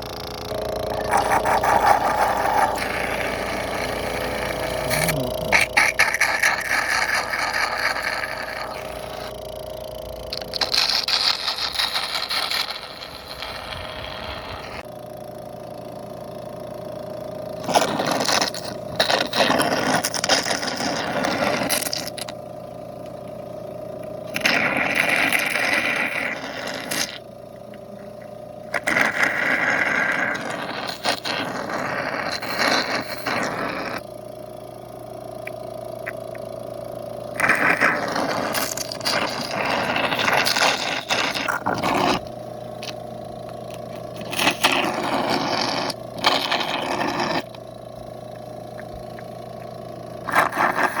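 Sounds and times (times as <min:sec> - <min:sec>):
noisy suction rushes: 0:00.0 - 0:14.9, 0:17.5 - 0:22.4, 0:24.3 - 0:27.3, 0:28.6 - 0:34.3, 0:37.3 - 0:43.1, 0:43.9 - 0:51.0
suction device humming: 0:00.0 - 0:51.0.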